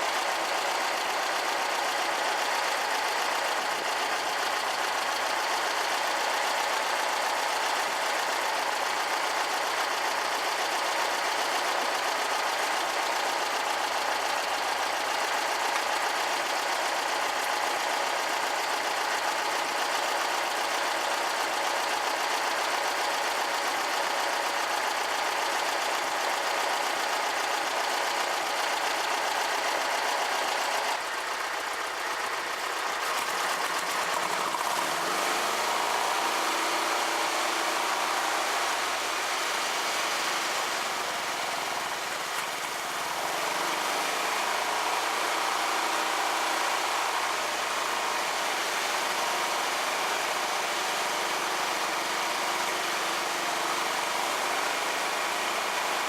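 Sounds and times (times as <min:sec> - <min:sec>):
air-cooled engine idling: 0:00.0 - 0:56.0.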